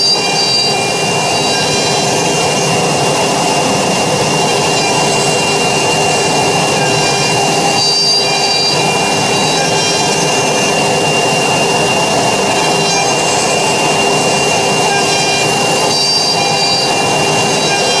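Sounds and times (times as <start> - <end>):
router spindle high whine: 0.0 - 18.0.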